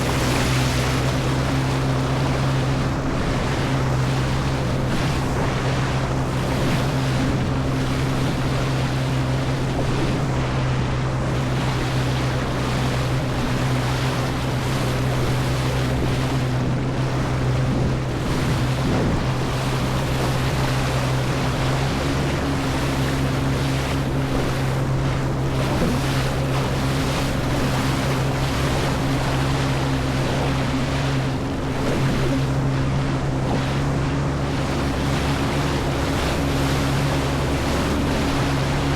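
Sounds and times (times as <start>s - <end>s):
jet ski engine running: 0.0s - 38.9s
water rushing: 0.0s - 38.9s
wind buffeting microphone: 0.0s - 38.9s.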